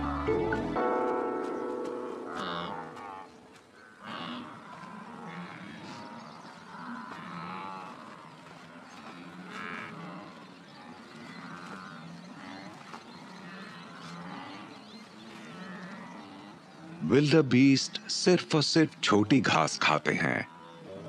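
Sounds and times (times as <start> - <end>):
wildebeest grunting calls: 0.0 - 21.0.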